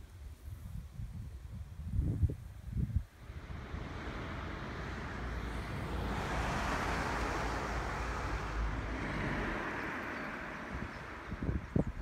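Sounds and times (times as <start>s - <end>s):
wind gusting through trees: 0.0s - 12.0s
wind buffeting microphone: 0.4s - 12.0s.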